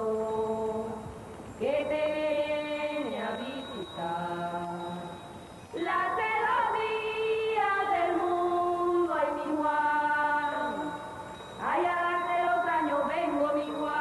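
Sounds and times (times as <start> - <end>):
voices chanting sung prayer: 0.0 - 14.0.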